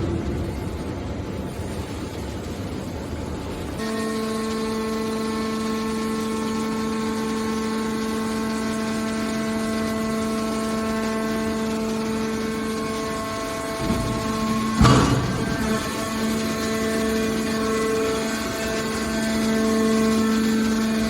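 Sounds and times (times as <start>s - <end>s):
hydraulic pump motor humming: 3.6s - 21.0s.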